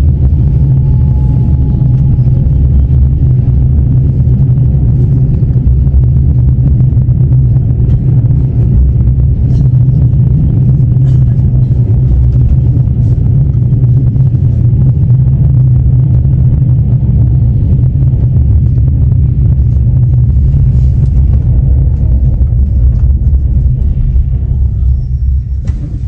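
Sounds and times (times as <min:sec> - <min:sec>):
train carriage rumbling: 0:00.0 - 0:26.0.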